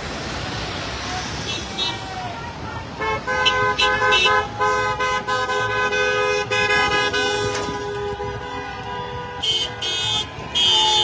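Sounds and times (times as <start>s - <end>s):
car horns honking: 1.5s - 11.0s.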